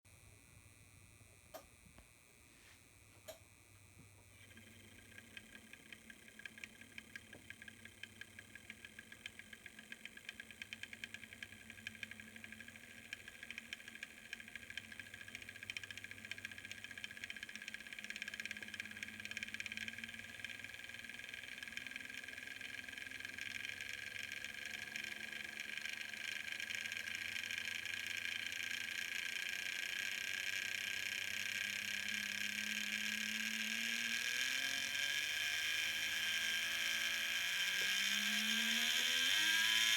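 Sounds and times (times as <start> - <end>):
model locomotive motor whining: 4.2 - 39.9.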